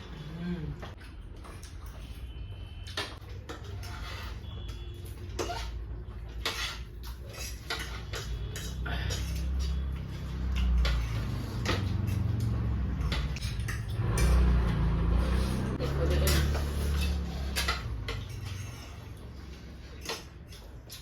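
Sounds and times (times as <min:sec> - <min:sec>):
utensils clinking against bowls: 0:00.0 - 0:21.0.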